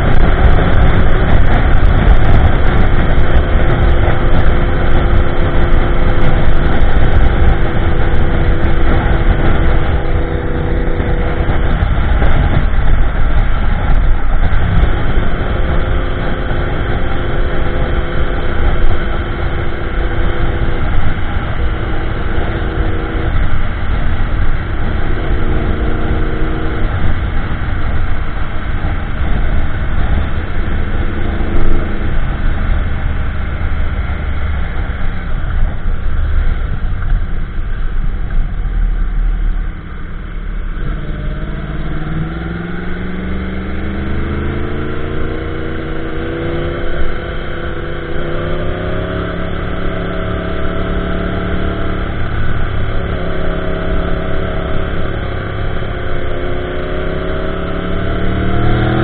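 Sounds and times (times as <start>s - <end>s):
motorcycle engine cruising: 0.0s - 59.0s
wind rush on microphone: 0.0s - 59.0s.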